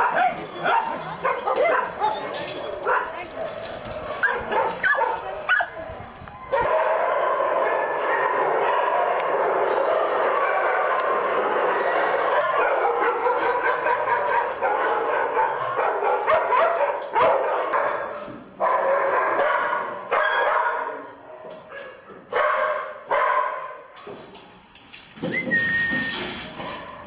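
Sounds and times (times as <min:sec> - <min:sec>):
dogs barking yelping and whining: 0:00.0 - 0:23.8.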